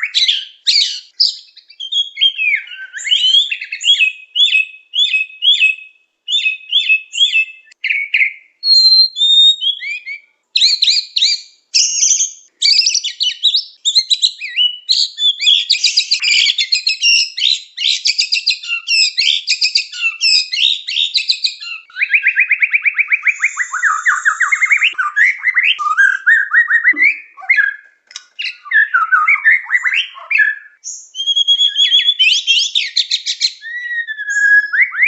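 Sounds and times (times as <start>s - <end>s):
songbird whistling and trilling: 0.0s - 35.0s.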